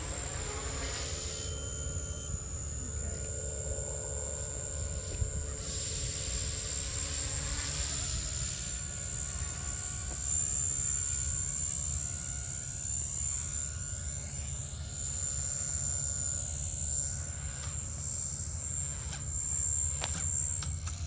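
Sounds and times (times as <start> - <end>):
rc helicopter rotor whining: 0.0 - 21.0.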